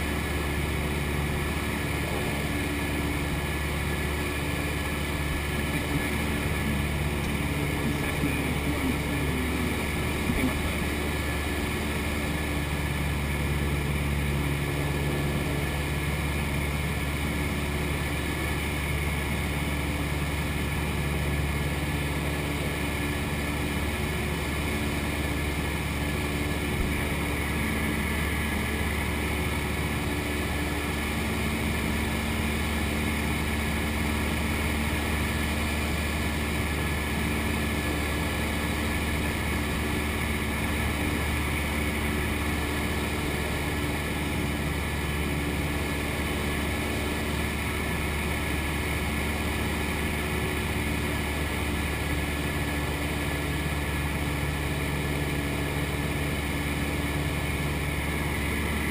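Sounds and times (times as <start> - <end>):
plane engine and propeller humming: 0.0 - 58.9.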